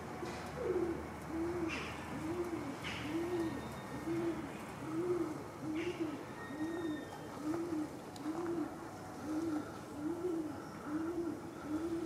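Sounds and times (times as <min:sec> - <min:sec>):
dove cooing: 0:00.6 - 0:12.0.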